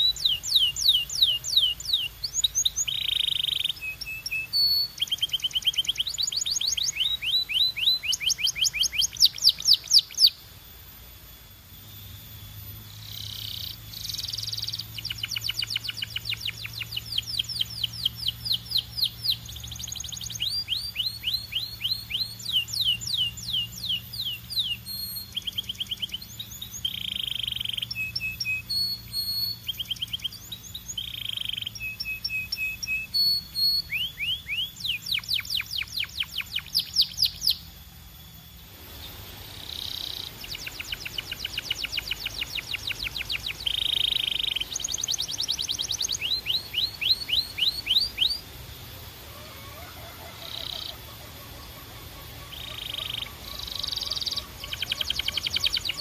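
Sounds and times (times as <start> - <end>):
canary singing trills: 0.0 - 10.8, 11.4 - 56.0.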